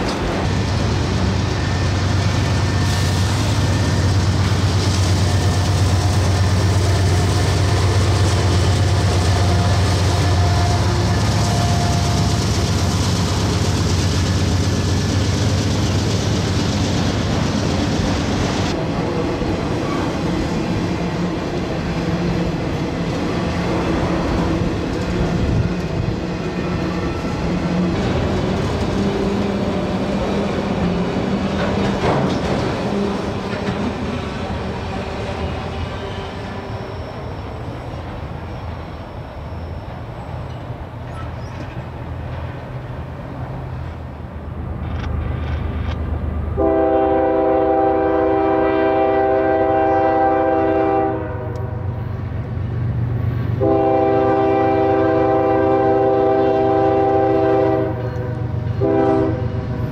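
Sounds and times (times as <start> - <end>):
freight train wheels rumbling and rattling: 0.0 - 59.9.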